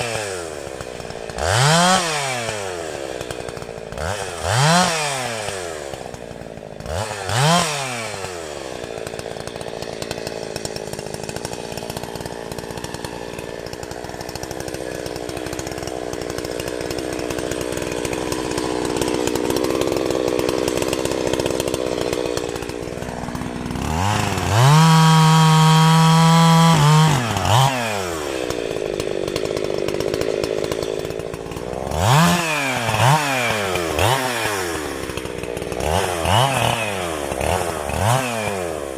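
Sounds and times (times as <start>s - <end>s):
chainsaw cutting trees: 0.0s - 38.9s.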